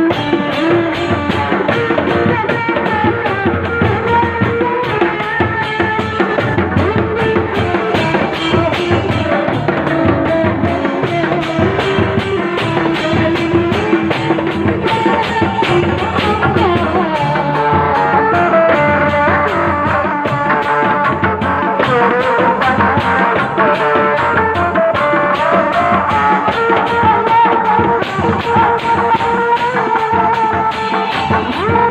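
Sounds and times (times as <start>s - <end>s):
drums beaten in fast rhythm: 0.0s - 31.9s
wavering melody: 0.0s - 31.9s.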